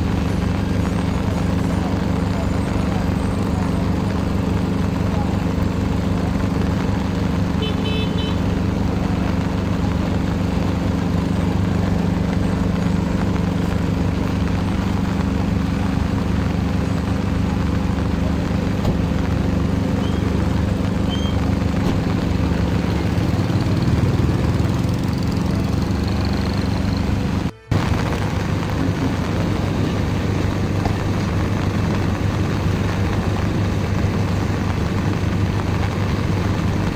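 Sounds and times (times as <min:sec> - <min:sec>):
continuous wash of noise: 0:00.0 - 0:36.9
low engine hum: 0:00.0 - 0:36.9.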